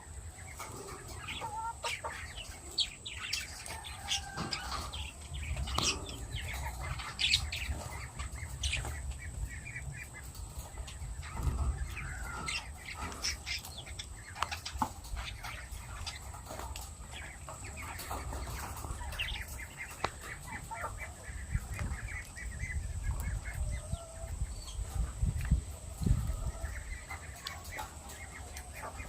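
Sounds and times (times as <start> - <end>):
lovebirds chirping: 0.0 - 29.0.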